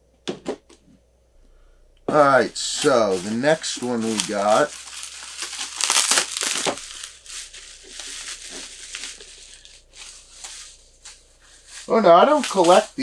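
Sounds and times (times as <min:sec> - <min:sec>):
plastic wrapping crinkling: 0:02.2 - 0:13.0.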